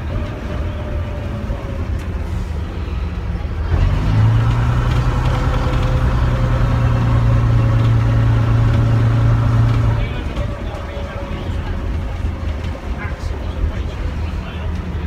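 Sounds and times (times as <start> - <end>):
diesel bus engine droning: 0.0 - 15.0.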